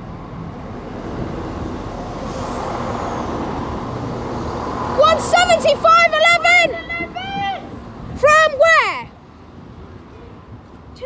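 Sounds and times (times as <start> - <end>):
diesel train running past: 0.0 - 10.6.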